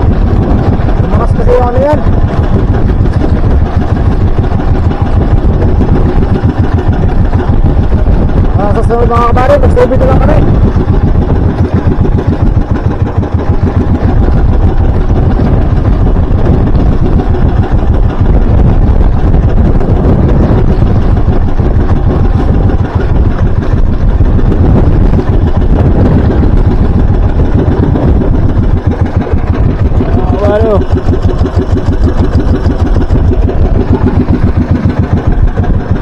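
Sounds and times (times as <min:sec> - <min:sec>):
boat engine running: 0:00.0 - 0:36.0.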